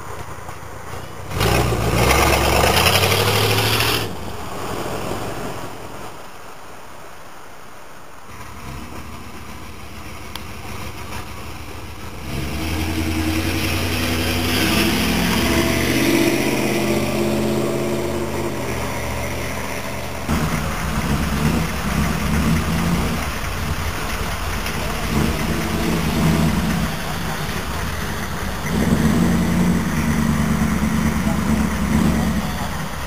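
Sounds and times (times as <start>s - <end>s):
car engines idling and revving: 0.0s - 33.0s.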